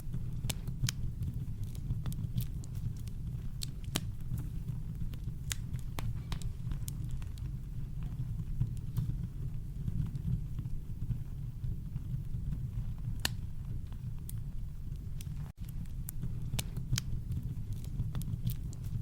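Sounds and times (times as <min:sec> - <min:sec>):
campfire crackling and popping: 0:00.0 - 0:19.0
deep fire rumble: 0:00.0 - 0:19.0.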